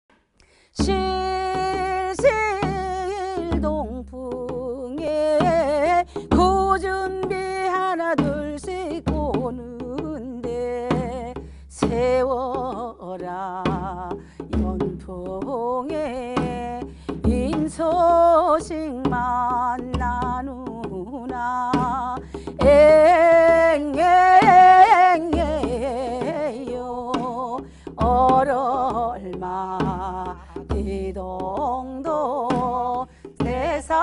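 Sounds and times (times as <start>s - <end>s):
woman singing folk song: 0.4s - 34.0s
struck drum: 0.8s - 34.0s.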